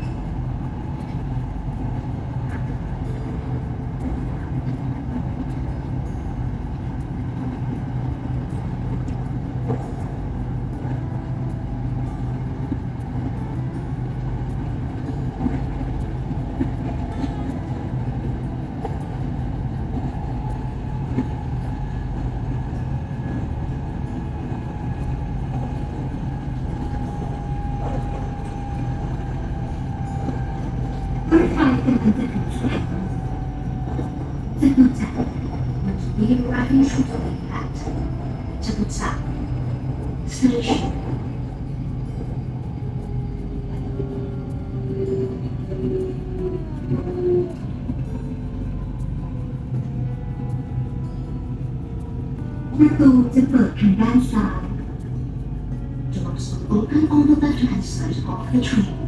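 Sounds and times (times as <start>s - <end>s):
electric train rumble and hum: 0.0s - 59.0s.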